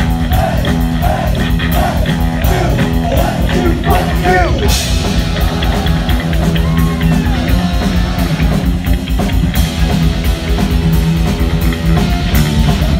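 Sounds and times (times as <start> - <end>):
bass guitar: 0.0 - 12.9
distorted electric guitar: 0.0 - 12.9
drum kit with cymbals: 0.0 - 12.9.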